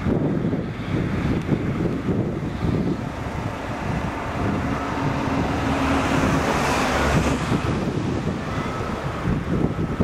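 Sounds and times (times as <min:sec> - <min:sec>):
heavy diesel machinery droning: 0:00.0 - 0:10.0.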